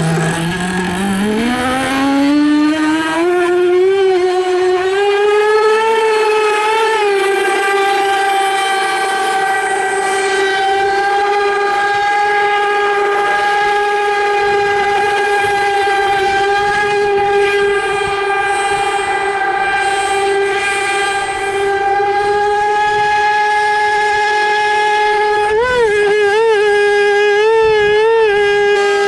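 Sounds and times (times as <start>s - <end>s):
model boat motor whining: 0.0s - 29.0s.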